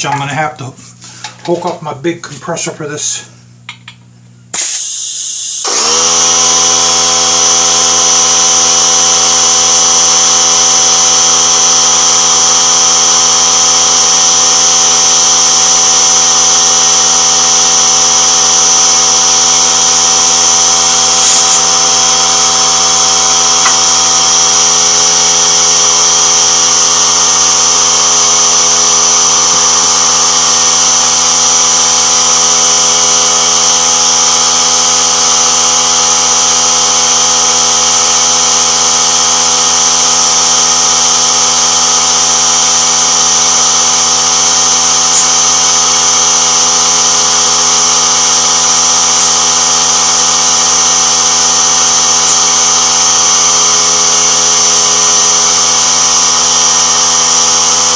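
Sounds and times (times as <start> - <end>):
air compressor running: 3.1 - 57.9.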